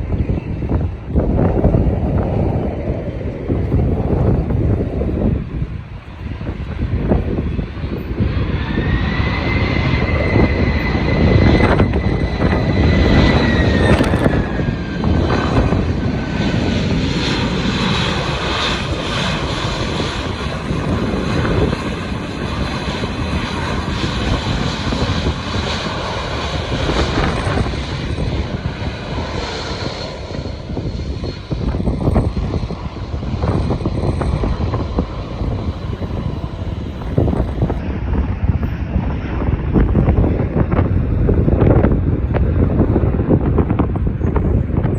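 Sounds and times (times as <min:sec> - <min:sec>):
jet engine high whine: 0:00.0 - 0:44.9
jet engines rumbling: 0:00.0 - 0:44.9.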